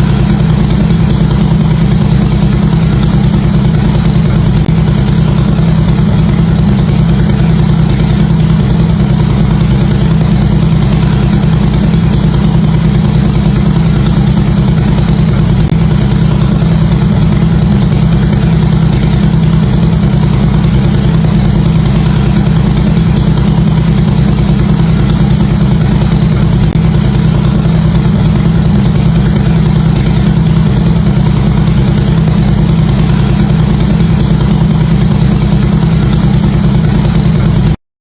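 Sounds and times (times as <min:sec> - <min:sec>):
motorcycle engine idling: 0:00.0 - 0:37.8.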